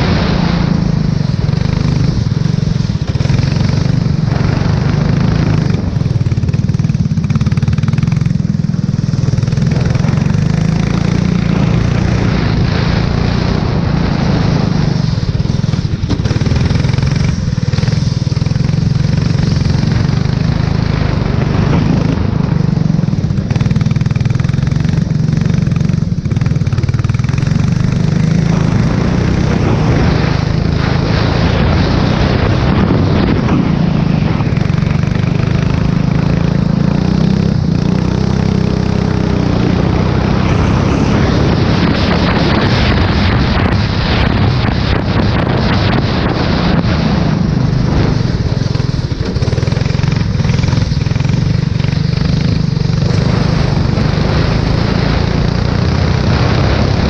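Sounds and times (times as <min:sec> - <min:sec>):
hiss of wind and spray: 0:00.0 - 0:57.0
race car engine running hard: 0:00.0 - 0:57.0.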